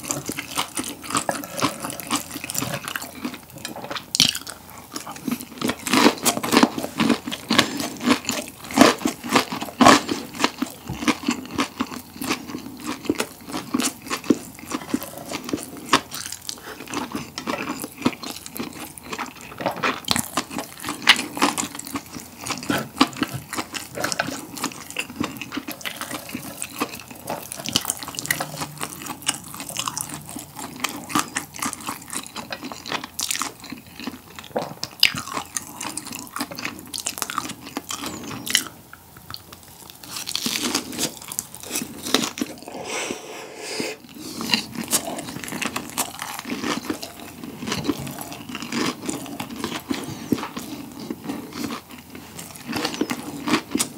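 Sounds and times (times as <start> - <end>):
wet chewing and lip-smacking: 0.0 - 42.7, 44.1 - 53.9.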